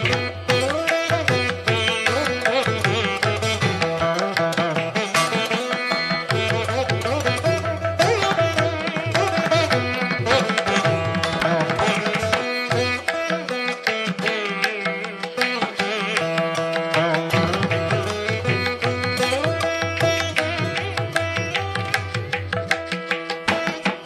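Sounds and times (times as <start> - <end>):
plucked string melody: 0.0 - 24.0.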